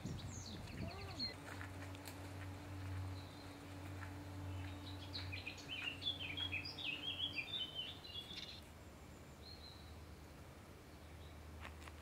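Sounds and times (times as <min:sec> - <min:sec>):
songbird chirping and warbling: 0:00.0 - 0:01.6, 0:02.8 - 0:11.4.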